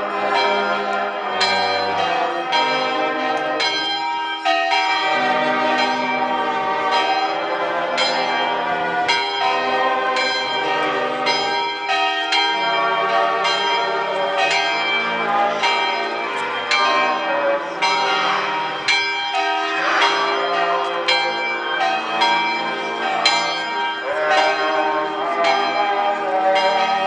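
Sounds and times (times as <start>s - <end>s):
church bells pealing: 0.0s - 27.0s.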